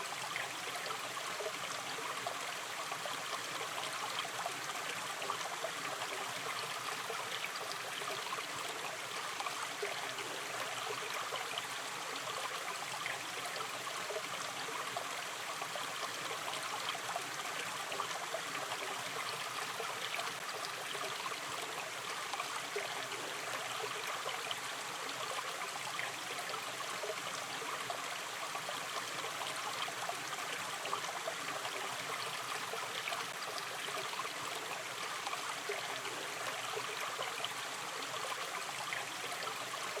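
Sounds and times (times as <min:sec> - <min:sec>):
river water flowing and babbling: 0:00.0 - 0:40.0.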